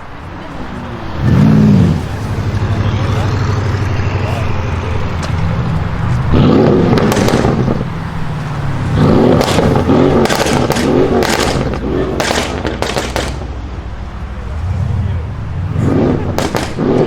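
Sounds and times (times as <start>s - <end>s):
car engine revving: 0.0s - 17.0s
exhaust crackles and pops: 0.5s - 17.0s.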